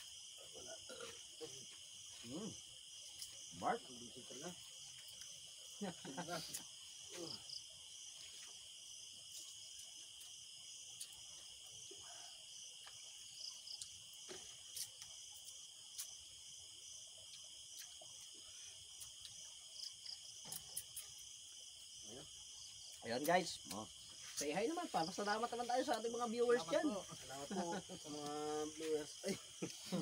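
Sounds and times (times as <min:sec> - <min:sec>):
night insects chorus: 0:00.0 - 0:30.0.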